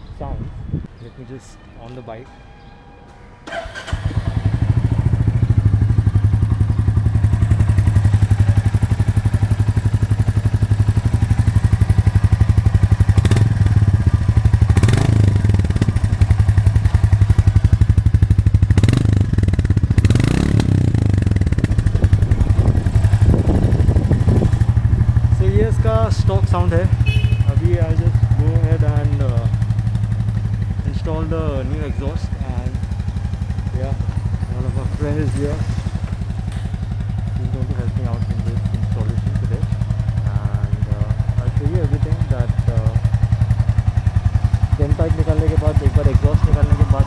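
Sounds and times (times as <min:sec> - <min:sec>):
motorcycle engine idling and revving: 0:03.5 - 0:47.0.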